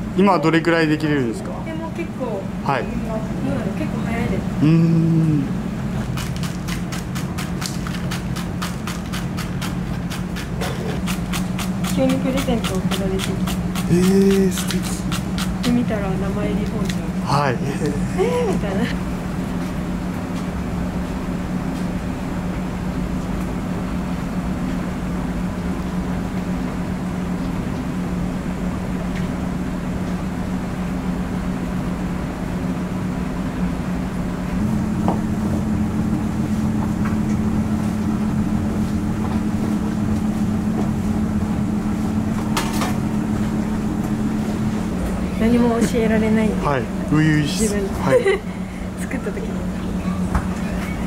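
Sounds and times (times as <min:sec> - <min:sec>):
kitchen equipment humming: 0:00.0 - 0:51.0.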